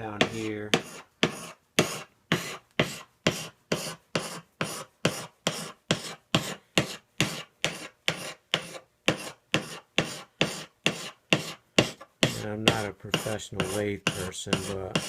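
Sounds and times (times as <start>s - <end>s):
sharpening stone scraping steel: 0.2s - 15.0s.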